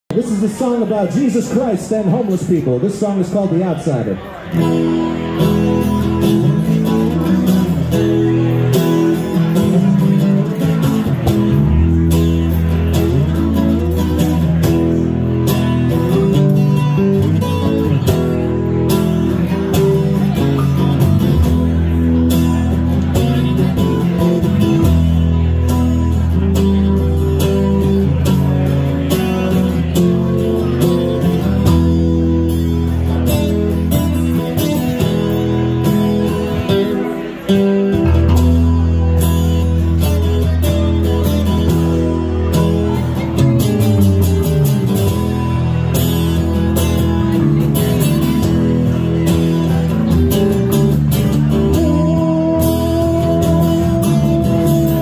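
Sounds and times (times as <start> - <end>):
acoustic guitar strumming: 0.1 - 55.0
bass guitar low notes: 4.2 - 55.0.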